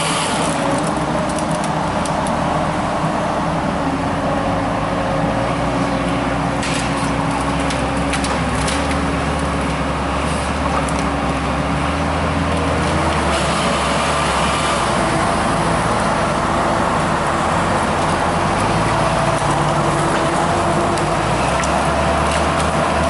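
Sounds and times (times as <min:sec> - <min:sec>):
log skidder engine running: 0:00.0 - 0:23.0.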